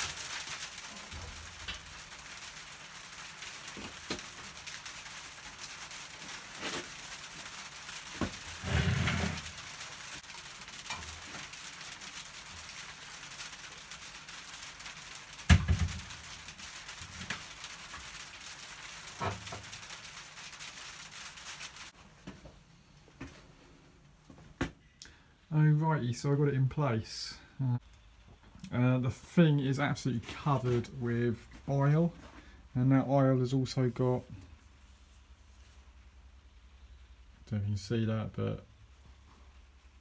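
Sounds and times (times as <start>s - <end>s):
steady hiss: 0.0s - 22.0s, 25.2s - 40.0s.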